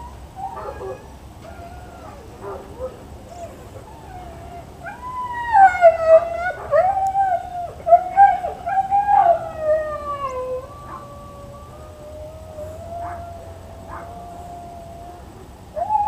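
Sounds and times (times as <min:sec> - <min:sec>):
dog howling: 0:00.0 - 0:16.0.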